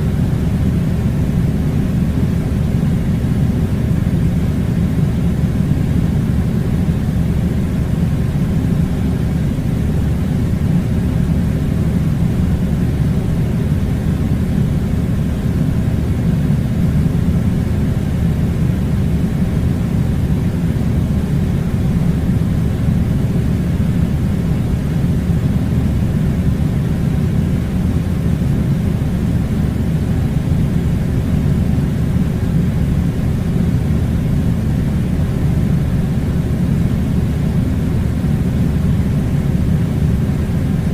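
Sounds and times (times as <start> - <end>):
air conditioning unit blowing: 0.0 - 40.9.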